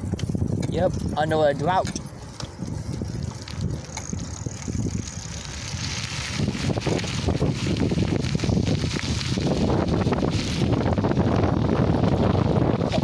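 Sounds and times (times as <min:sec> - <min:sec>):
wind buffeting microphone: 0:00.0 - 0:13.0
rushing hiss of bicycle riding: 0:01.2 - 0:13.0.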